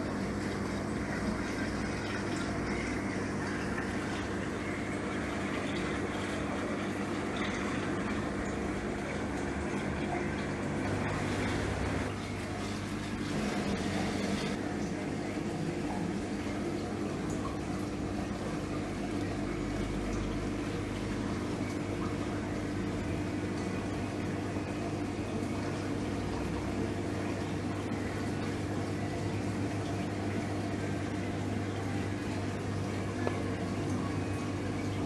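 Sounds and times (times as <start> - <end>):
water trickling and splashing: 0.0 - 13.4, 14.5 - 35.0
pump hum: 0.0 - 35.0.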